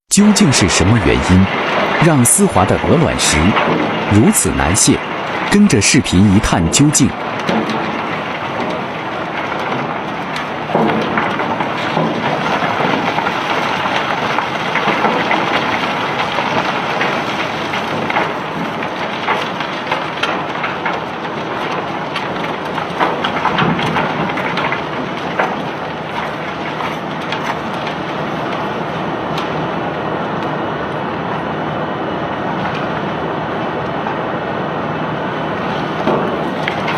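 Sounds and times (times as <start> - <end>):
machinery rumble: 0.1 - 36.9
cobblestones clattering: 0.2 - 30.6.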